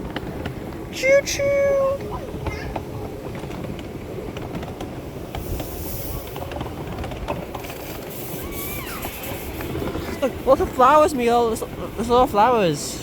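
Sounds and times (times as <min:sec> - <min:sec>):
train rumbling along track: 0:00.0 - 0:13.0
train wheels clicking: 0:00.0 - 0:13.0.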